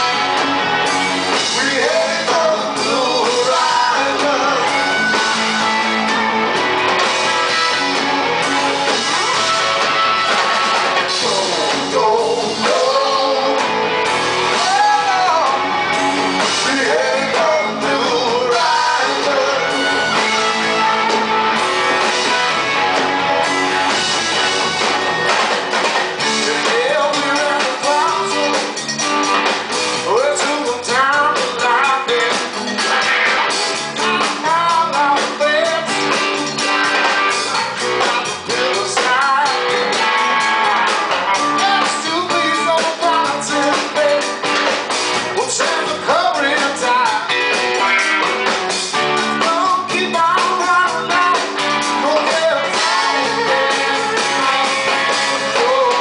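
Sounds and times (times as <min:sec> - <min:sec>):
blues-rock band playing: 0:00.0 - 0:56.0.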